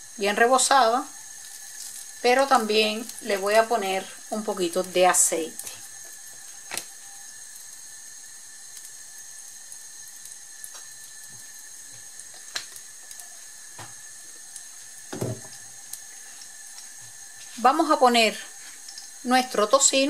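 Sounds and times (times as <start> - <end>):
oil pouring into a frying pan: 0.0 - 17.7, 18.3 - 19.6
low hiss: 0.0 - 20.0.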